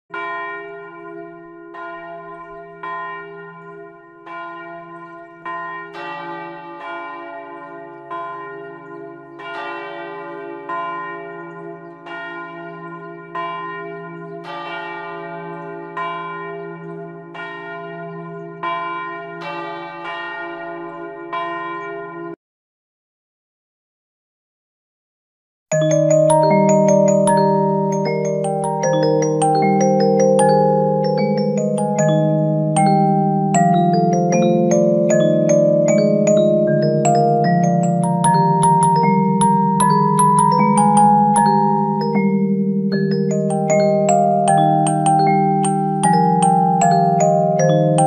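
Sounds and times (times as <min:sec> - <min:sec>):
church bells pealing: 0:00.1 - 0:22.4, 0:25.7 - 0:48.0.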